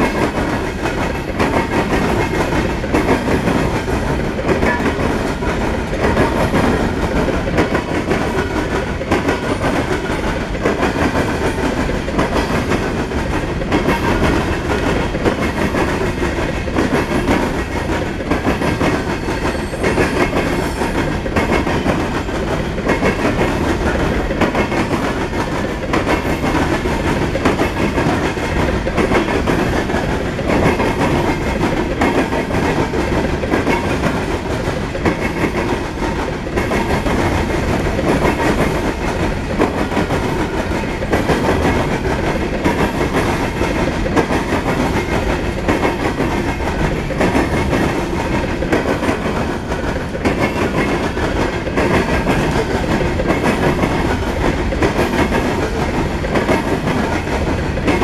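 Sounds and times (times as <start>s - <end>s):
freight train cars rumbling past: 0.0s - 58.0s
train wheel clicks and clacks: 0.0s - 58.0s.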